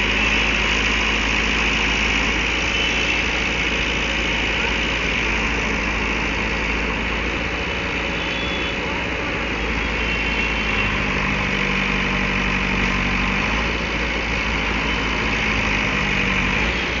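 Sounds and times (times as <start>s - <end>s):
diesel engine running: 0.0s - 17.0s
second engine running: 0.0s - 17.0s.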